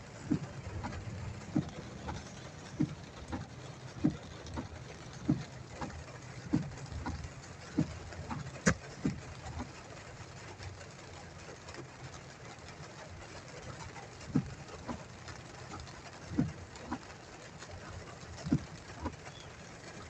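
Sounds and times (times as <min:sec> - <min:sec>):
car engine idling: 0:00.0 - 0:20.0
rain on car body: 0:00.0 - 0:20.0
windshield wipers thumping: 0:00.0 - 0:20.0.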